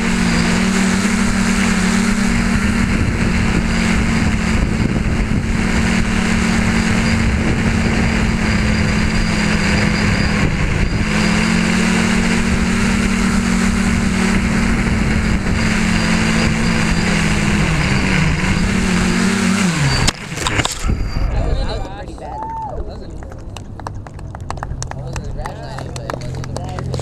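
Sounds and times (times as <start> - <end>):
drone motors and propellers droning: 0.0 - 22.1.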